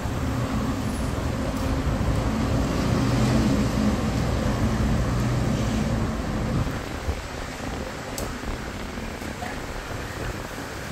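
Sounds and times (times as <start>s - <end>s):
bus engine hum: 0.0s - 10.9s
traffic noise: 0.0s - 10.9s.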